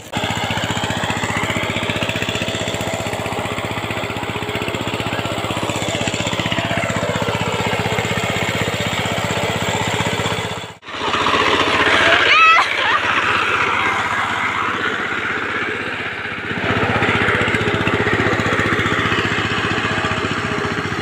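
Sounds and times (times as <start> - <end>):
tractor engine chugging: 0.0 - 21.0.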